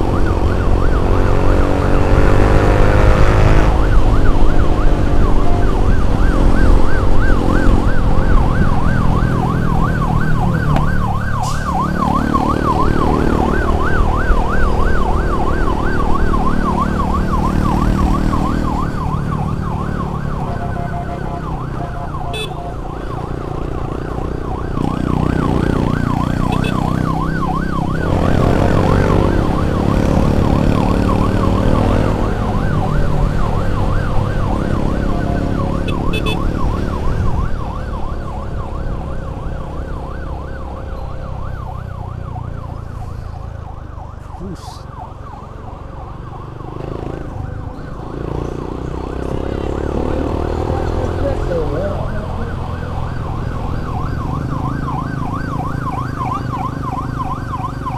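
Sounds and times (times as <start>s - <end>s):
emergency siren yelping: 0.0s - 57.9s
vehicle and road rumble: 0.0s - 57.9s.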